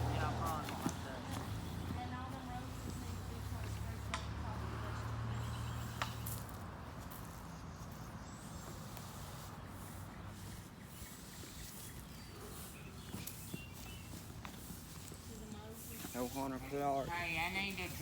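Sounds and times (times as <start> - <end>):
broom scratching on wet concrete: 0.0 - 18.0.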